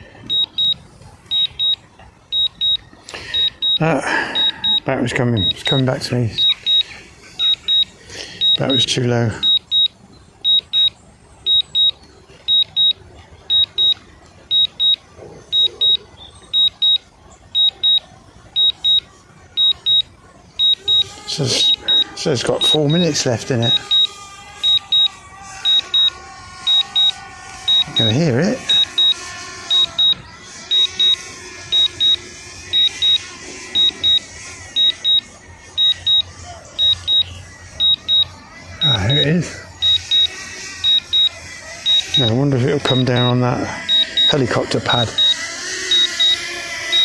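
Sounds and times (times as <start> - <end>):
high-pitched double beeps: 0.3 - 2.8, 3.4 - 5.8, 6.4 - 16.0, 18.6 - 23.0, 23.7 - 26.1, 26.7 - 33.2, 33.8 - 47.0.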